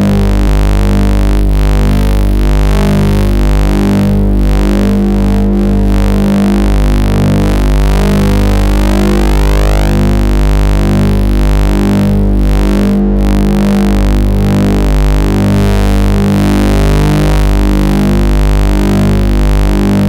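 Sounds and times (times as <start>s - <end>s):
buzzy electronic test tones: 0.0s - 20.0s.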